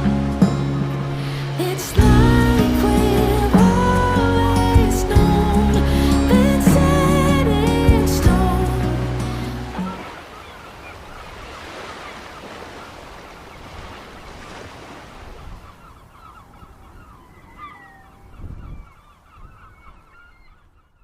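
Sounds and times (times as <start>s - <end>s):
surf washing on shore: 0.0s - 17.7s
seabirds calling: 0.0s - 21.0s.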